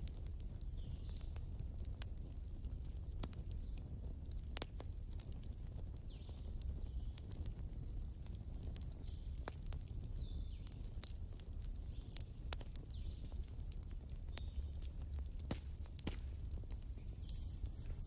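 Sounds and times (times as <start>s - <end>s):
low rumble of burning: 0.0s - 18.0s
wood fire crackling: 0.0s - 18.0s.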